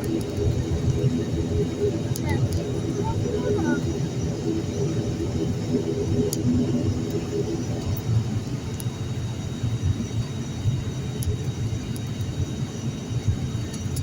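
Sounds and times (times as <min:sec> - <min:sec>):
turboprop engines rumbling in cabin: 0:00.0 - 0:14.0.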